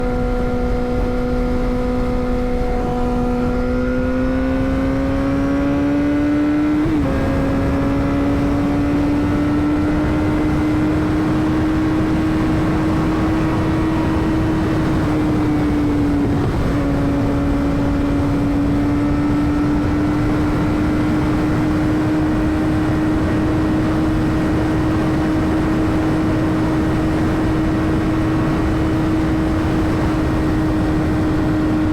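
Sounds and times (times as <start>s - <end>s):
motorcycle engine revving high: 0.0s - 31.9s.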